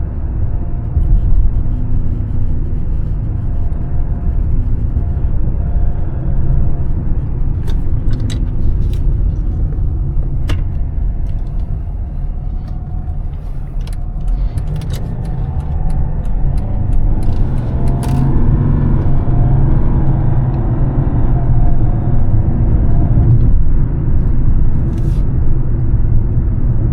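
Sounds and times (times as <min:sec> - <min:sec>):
diesel engine rumble: 0:00.0 - 0:26.9
road noise: 0:00.0 - 0:26.9.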